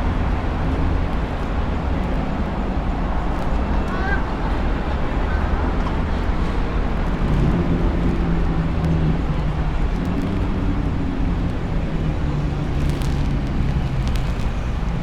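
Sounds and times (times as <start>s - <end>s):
street traffic rumble: 0.0s - 15.0s
vehicle engine humming nearby: 0.0s - 15.0s.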